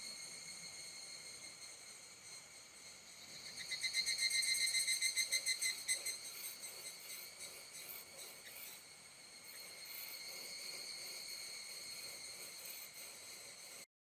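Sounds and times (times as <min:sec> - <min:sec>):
high-pitched insect chirring: 0:00.0 - 0:13.9
insect pulsing trill: 0:00.0 - 0:13.9.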